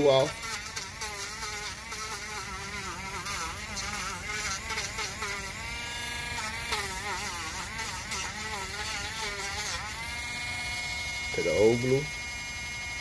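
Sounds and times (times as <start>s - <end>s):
rotary tool whining while grinding: 0.0s - 13.0s.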